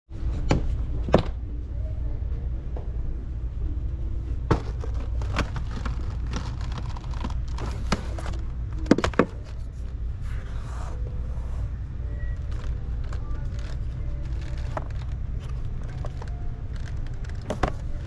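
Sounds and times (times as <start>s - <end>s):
low vehicle rumble: 0.1s - 18.0s.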